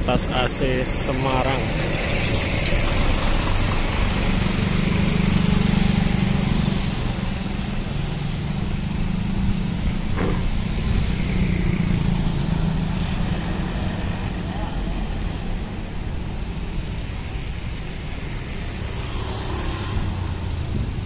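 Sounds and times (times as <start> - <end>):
motorbikes riding past: 0.2 - 21.0.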